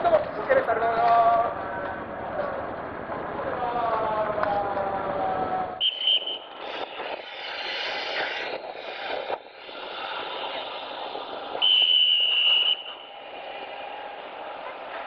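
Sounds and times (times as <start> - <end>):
harbour and ship deck noise: 0.0 - 15.0.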